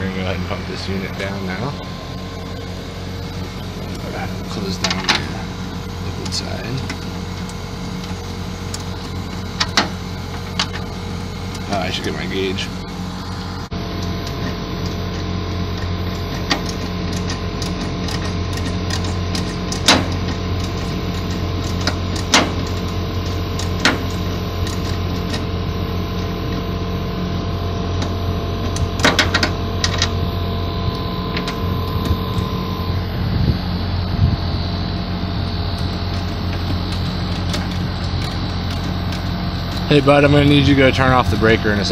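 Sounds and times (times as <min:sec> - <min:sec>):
air conditioner unit humming: 0:00.0 - 0:41.9.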